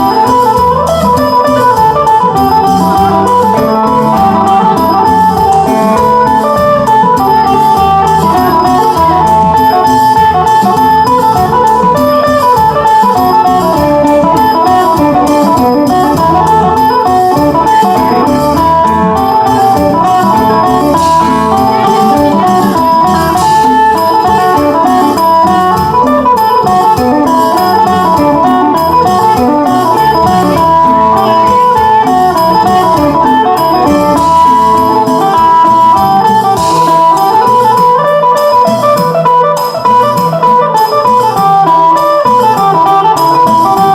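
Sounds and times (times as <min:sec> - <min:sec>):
plucked lute fast melody: 0:00.0 - 0:43.9.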